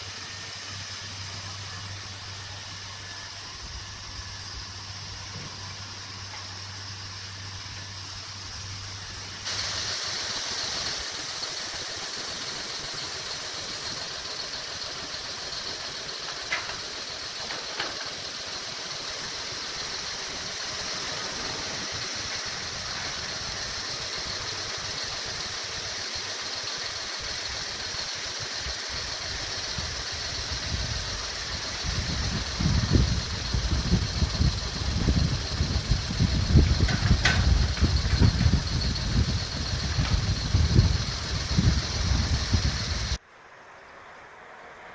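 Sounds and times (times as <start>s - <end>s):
diesel engine running: 0.0s - 43.2s.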